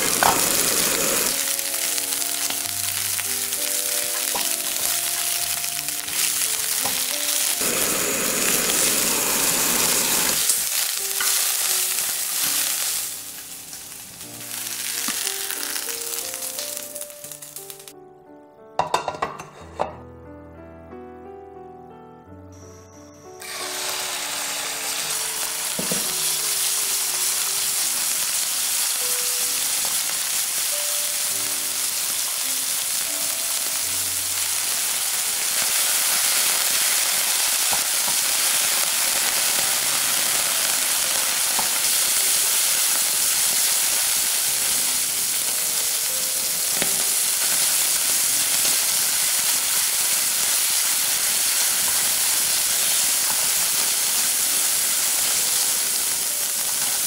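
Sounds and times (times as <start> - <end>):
meat sizzling in hot oil: 0.0 - 17.9, 23.3 - 57.0.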